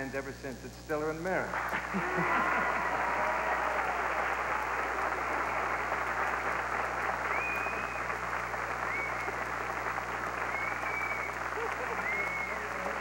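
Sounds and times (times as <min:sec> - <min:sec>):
audience applauding: 0:01.5 - 0:13.0.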